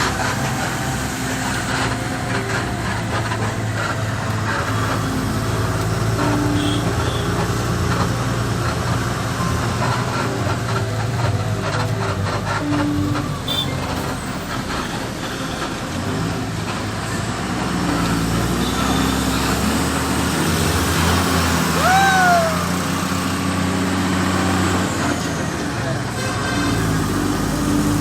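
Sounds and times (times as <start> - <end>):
road noise: 0.0 - 28.0
truck engine running: 0.0 - 28.0.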